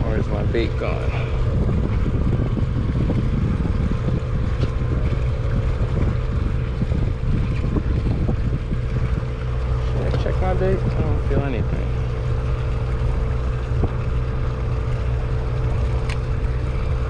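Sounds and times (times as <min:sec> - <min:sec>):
boat machinery droning: 0:00.0 - 0:17.0
wind buffeting microphone: 0:00.0 - 0:17.0.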